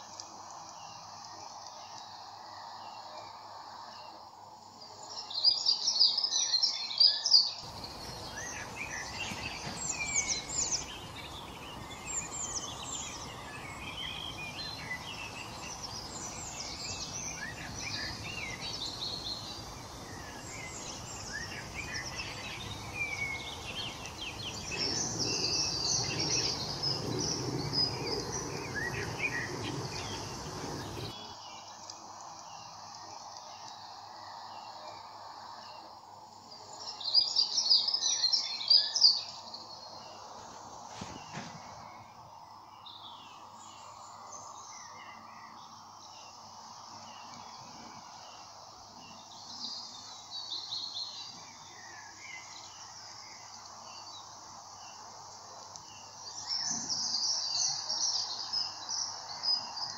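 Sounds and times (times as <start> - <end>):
outdoor background noise: 0.0 - 59.9
songbirds chirping: 0.0 - 59.9.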